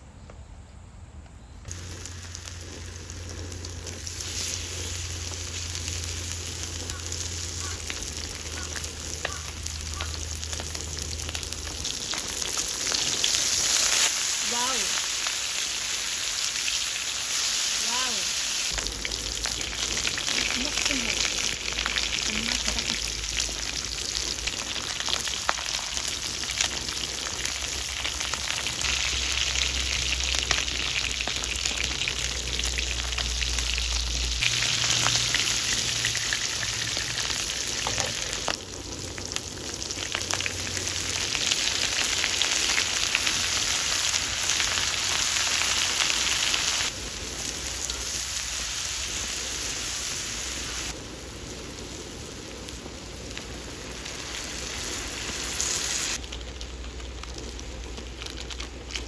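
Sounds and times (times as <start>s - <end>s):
food sizzling in a hot pan: 1.7s - 59.0s.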